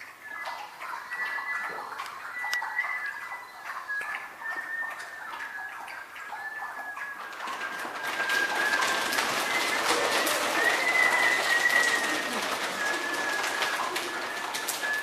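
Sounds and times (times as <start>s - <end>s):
high steady whistle-like tone: 0.0s - 15.0s
children doing body percussion: 0.6s - 15.0s.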